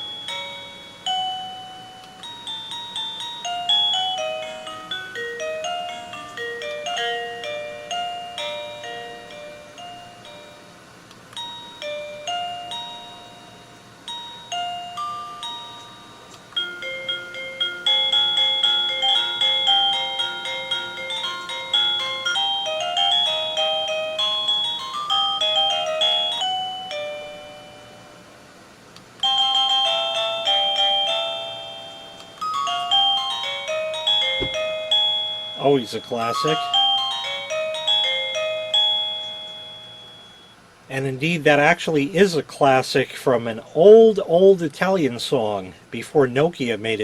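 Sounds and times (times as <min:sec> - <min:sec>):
electronic doorbell chimes: 0:00.0 - 0:10.8, 0:11.4 - 0:28.3, 0:29.2 - 0:40.7.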